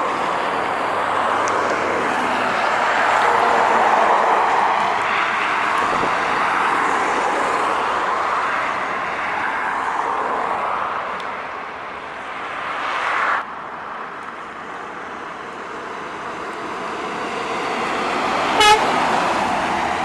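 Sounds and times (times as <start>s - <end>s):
heavy trucks passing on highway: 0.0s - 20.0s.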